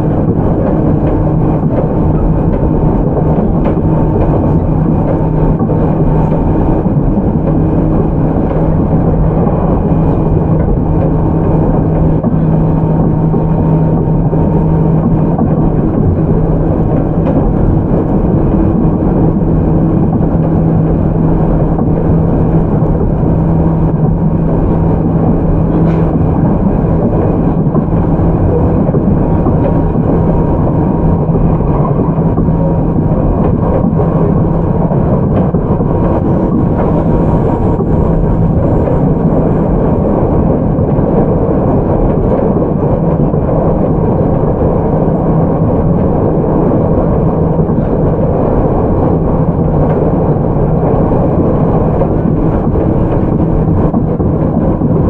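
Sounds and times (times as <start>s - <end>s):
low hum of traction motors: 0.0s - 55.0s
train wheels rumbling on rail: 0.0s - 55.0s.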